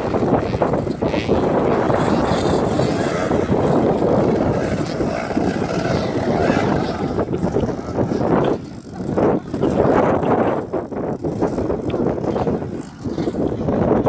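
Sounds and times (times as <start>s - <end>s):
motorbike engines revving: 0.0s - 14.0s
wind noise on microphone: 0.0s - 14.0s.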